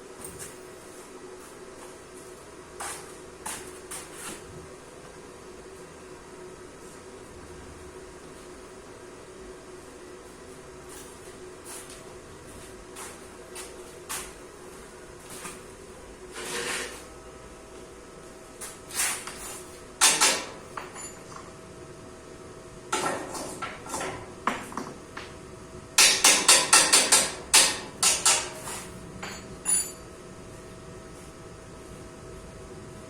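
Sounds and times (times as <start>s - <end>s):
steady faint hum: 0.0s - 33.0s.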